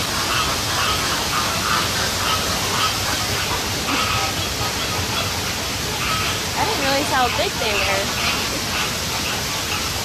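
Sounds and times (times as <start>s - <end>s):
birds calling: 0.2s - 10.0s.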